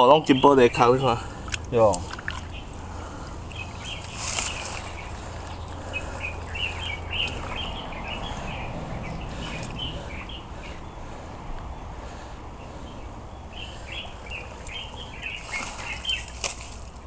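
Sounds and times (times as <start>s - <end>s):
small birds chirping: 0.0s - 17.0s
steady low rumble: 0.2s - 17.0s.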